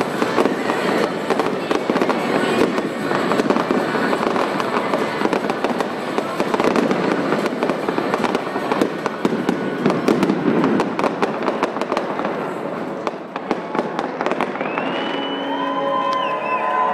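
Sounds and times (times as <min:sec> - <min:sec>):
fireworks banging and crackling: 0:00.0 - 0:15.7.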